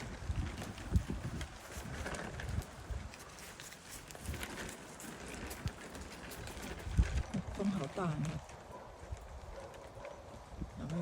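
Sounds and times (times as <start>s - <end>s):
wind gusting against microphone: 0.0s - 11.0s.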